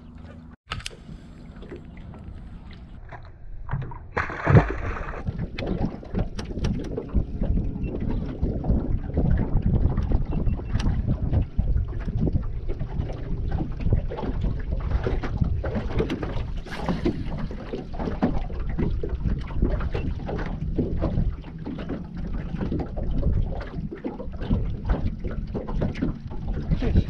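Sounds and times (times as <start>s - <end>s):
wind rumbling on microphone: 0.0s - 27.0s
water slapping against boat hull: 1.5s - 27.0s.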